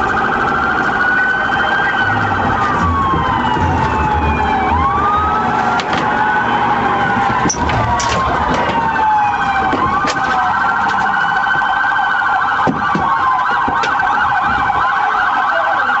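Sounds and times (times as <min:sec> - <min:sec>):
police sirens wailing: 0:00.0 - 0:16.0.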